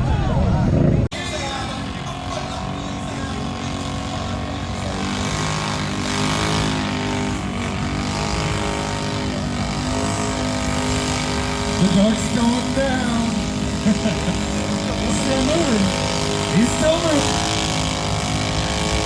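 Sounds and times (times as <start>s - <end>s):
atv engine revving: 1.1s - 19.0s.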